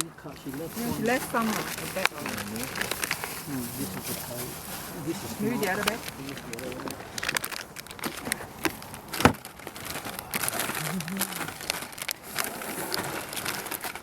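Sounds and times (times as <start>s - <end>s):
bag crinkling and rustling: 0.0s - 14.0s.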